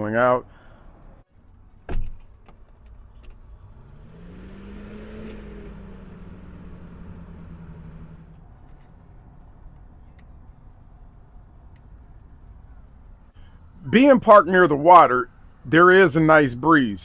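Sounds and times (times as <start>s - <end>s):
vehicle passing by: 3.3s - 17.0s.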